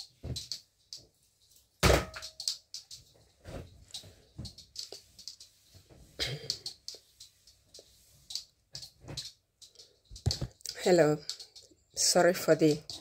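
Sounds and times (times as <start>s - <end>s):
light clicks and small knocks: 0.0s - 13.0s.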